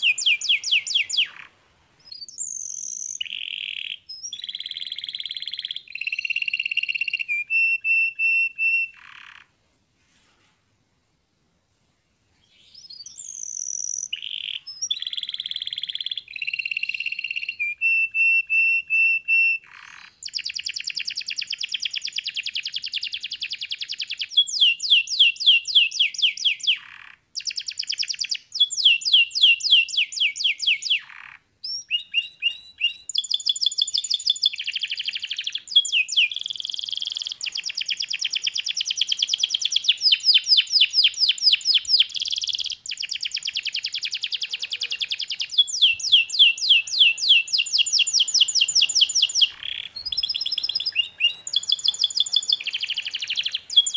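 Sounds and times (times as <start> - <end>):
canary singing trills: 0.0 - 9.5, 12.5 - 53.9.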